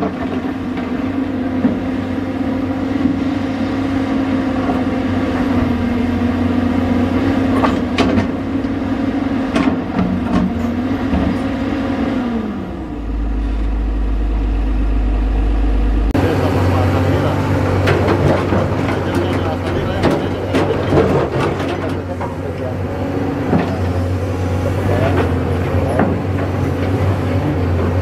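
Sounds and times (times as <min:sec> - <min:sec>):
excavator engine and hydraulics: 0:00.0 - 0:28.0.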